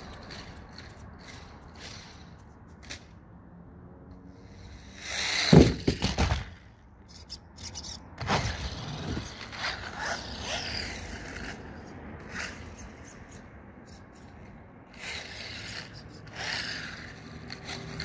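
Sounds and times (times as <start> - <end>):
rc car motor and tyres rushing: 0.0 - 3.3, 4.0 - 18.0.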